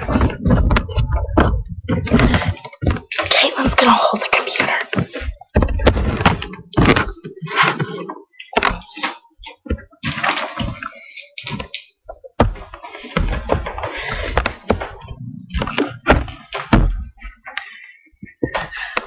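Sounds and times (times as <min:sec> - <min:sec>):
sharp knocks and bumps: 0:00.0 - 0:17.6.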